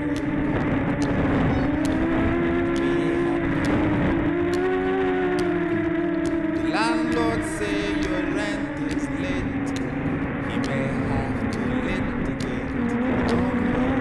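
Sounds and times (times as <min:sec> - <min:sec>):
quadcopter propellers whining: 0:00.0 - 0:14.0.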